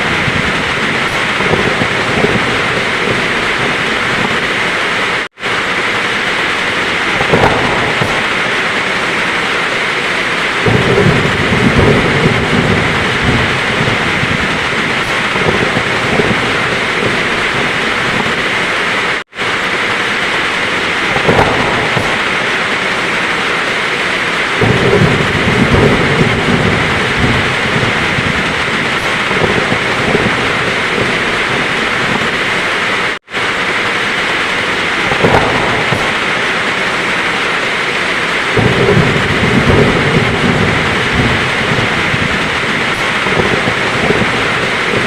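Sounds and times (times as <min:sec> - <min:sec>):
heavy rain: 0:00.0 - 0:45.0
thunder rumbling: 0:00.0 - 0:45.0.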